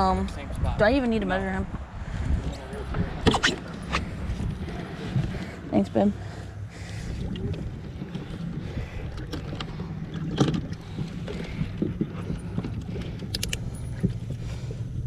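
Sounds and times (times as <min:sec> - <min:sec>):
boat low hum: 0:00.0 - 0:15.0.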